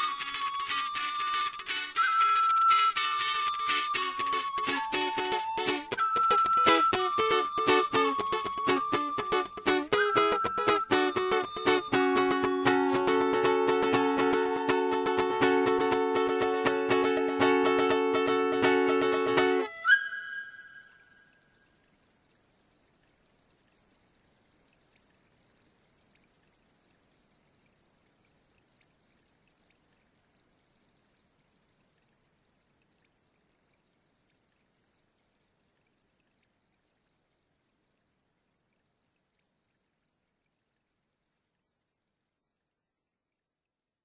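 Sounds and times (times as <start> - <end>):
faint hiss: 0.0 - 42.7.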